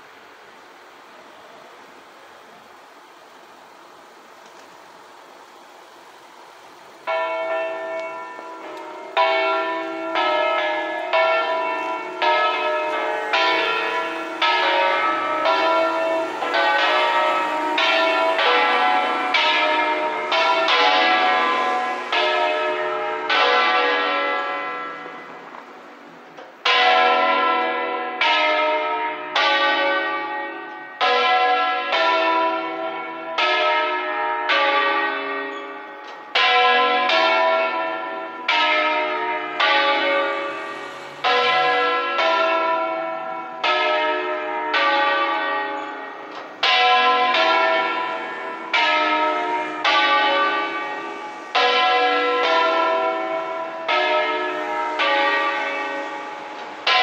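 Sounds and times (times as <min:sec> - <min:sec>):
church bells ringing peal: 0:06.6 - 0:57.0.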